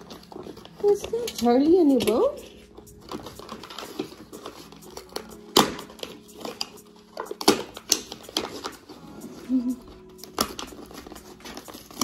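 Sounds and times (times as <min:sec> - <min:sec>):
paper packaging rustling: 0:00.0 - 0:12.0.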